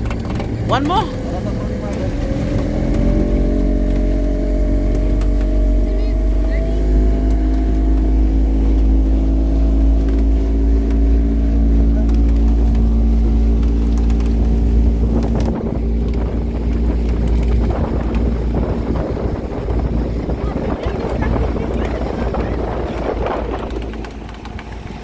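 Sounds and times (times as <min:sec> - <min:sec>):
small boat motor: 0:00.0 - 0:25.0
water rushing: 0:00.0 - 0:25.0
wind on microphone: 0:00.0 - 0:25.0.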